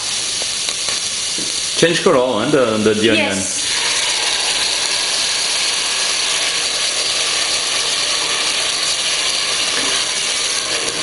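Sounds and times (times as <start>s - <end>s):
tomato pulp sizzling in hot oil: 0.0s - 11.0s.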